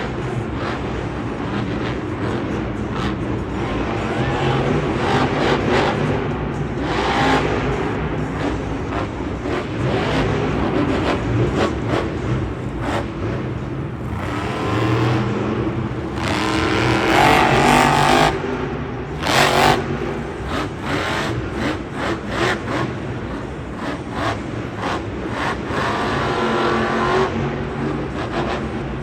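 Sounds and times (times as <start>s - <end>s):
monster truck engine revving: 0.1s - 29.0s.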